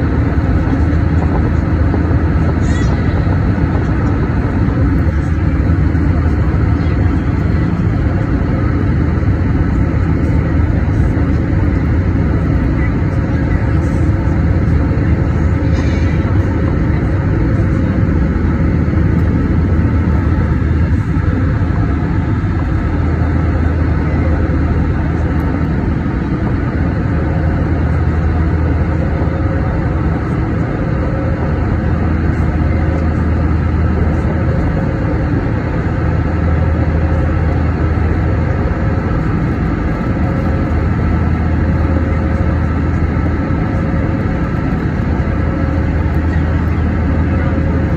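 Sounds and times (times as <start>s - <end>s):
constant rushing noise: 0.0s - 47.9s
jet engine hum in cabin: 0.0s - 47.9s.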